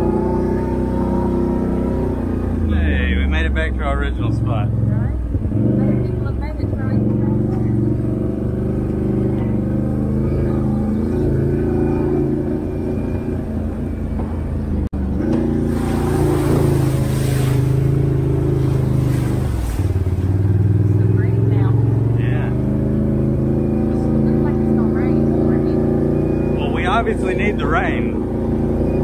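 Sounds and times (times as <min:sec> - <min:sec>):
atv engine running loudly: 0:00.0 - 0:29.0.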